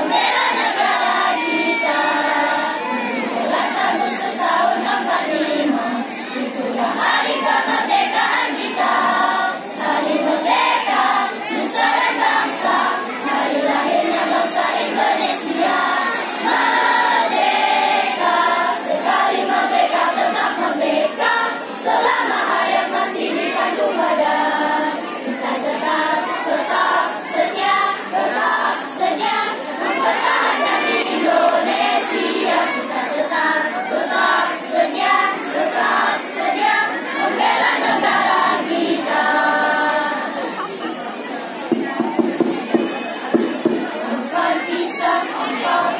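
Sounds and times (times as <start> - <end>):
choir of teenagers singing: 0.0 - 41.0, 41.7 - 45.9.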